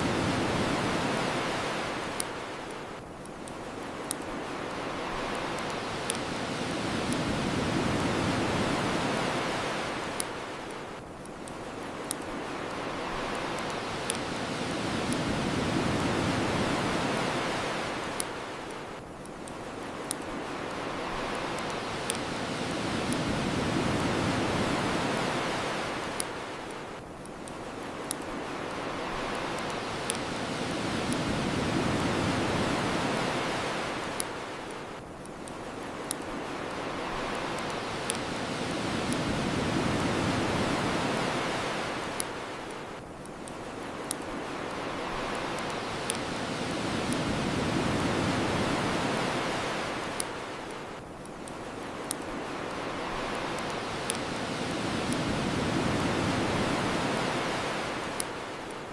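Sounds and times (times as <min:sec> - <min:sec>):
bonfire crackling: 0:00.0 - 0:58.9
ocean waves on shore: 0:00.0 - 0:58.9.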